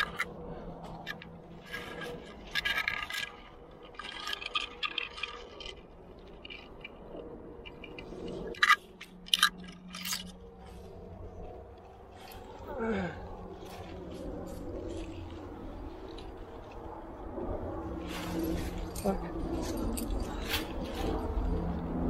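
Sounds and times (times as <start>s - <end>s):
climbing gear clinking: 0.0s - 22.0s
gear rubbing against rock: 0.0s - 22.0s.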